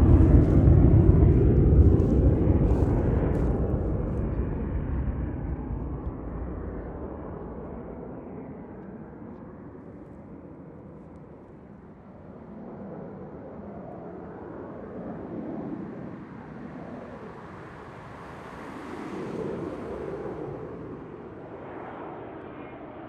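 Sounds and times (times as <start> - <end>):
jet aircraft rumble: 0.0 - 23.0.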